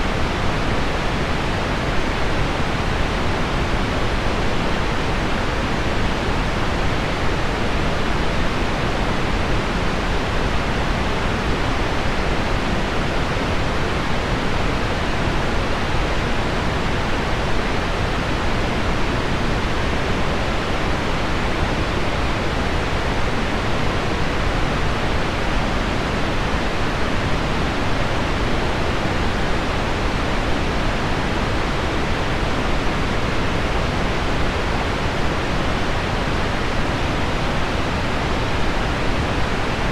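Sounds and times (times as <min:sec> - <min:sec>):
pink noise: 0:00.0 - 0:39.9.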